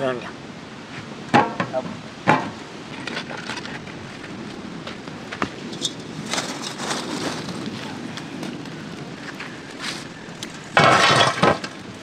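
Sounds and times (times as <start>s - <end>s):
wood fire crackling and popping: 2.2s - 12.0s.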